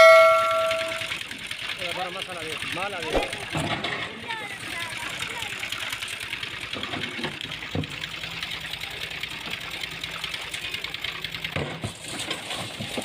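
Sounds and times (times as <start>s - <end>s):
machine engine clattering: 0.0s - 13.0s.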